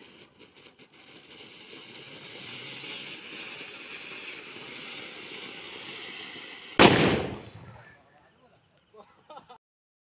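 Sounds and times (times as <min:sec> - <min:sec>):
firework fountain hissing sparks: 0:00.0 - 0:08.9.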